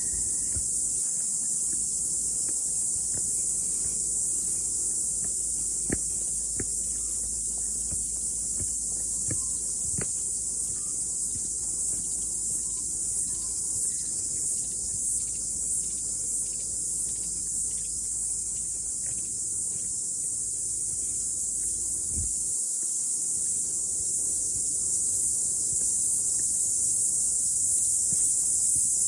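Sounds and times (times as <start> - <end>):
cicadas singing: 0.0 - 29.0.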